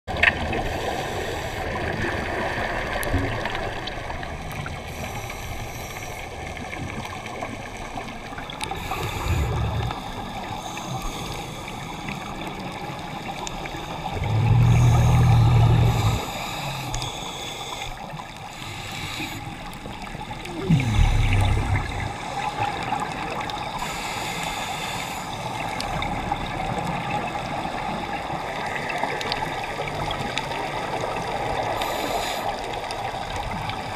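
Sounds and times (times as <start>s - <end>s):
scuba regulator bubbles: 0.1s - 33.9s
underwater hiss of water: 0.5s - 2.2s, 4.7s - 33.8s.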